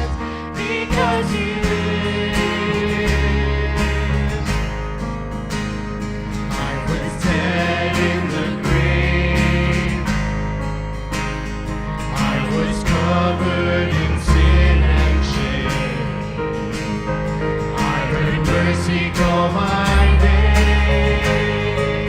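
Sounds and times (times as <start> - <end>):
worship band playing: 0.0 - 22.0.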